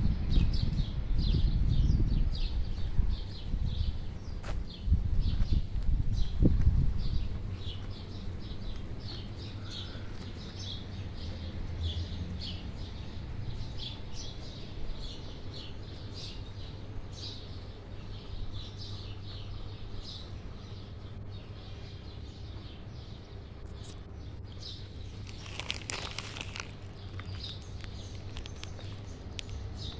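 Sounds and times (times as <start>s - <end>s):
songbirds chirping: 0.1s - 29.9s.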